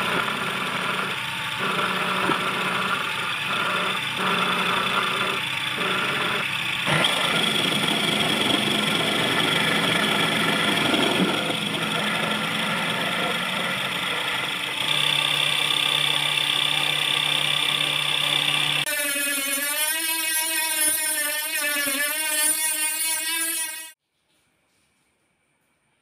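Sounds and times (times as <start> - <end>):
drill bit grinding metal: 0.0 - 24.0
lathe motor hum and whine: 0.0 - 24.0.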